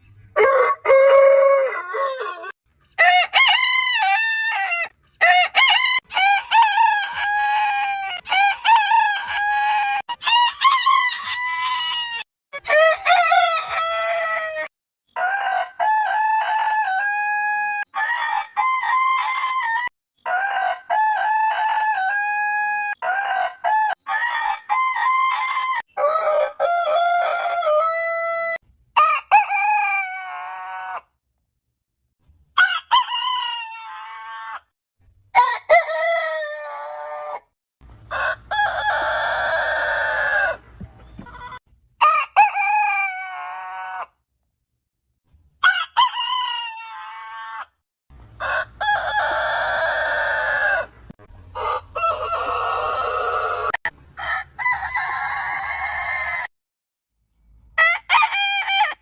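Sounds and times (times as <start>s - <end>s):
roosters crowing: 0.3s - 31.0s, 32.6s - 34.7s, 35.3s - 44.1s, 45.6s - 56.5s, 57.8s - 59.0s.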